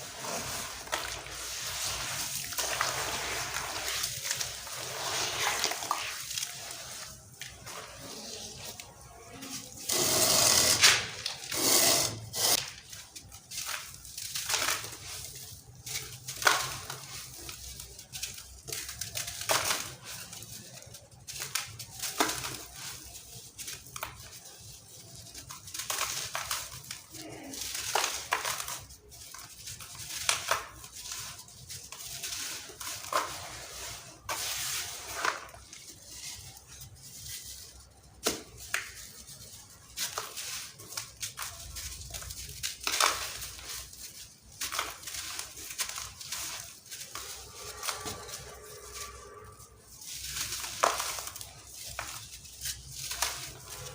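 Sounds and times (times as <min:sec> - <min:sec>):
sand-cement crunching and crumbling: 0:00.0 - 0:53.9.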